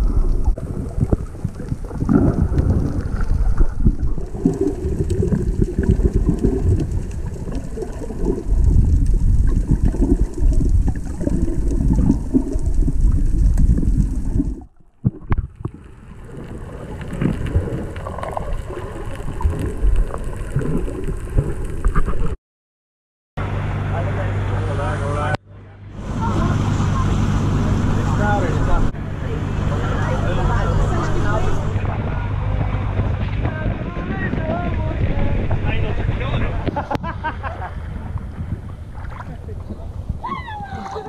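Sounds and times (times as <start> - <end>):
underwater water sloshing: 0.0 - 22.4, 26.0 - 41.0.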